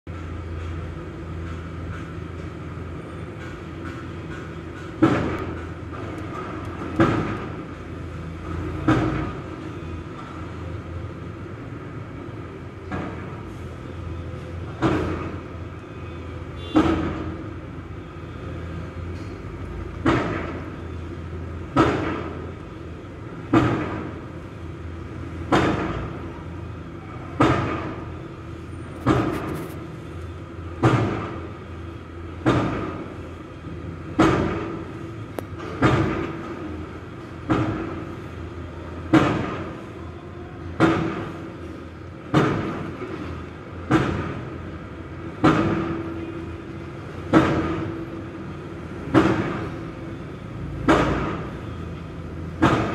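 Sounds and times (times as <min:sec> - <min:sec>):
heavy machinery pounding: 0:00.1 - 0:15.8, 0:16.4 - 0:29.8, 0:30.6 - 0:40.0, 0:40.6 - 0:52.9.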